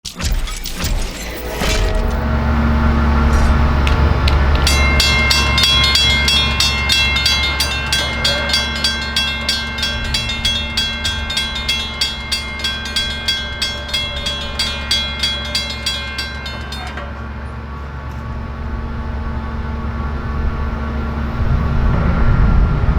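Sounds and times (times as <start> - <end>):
train rumbling: 1.2 - 22.9
crossing warning bell ringing: 1.7 - 22.9.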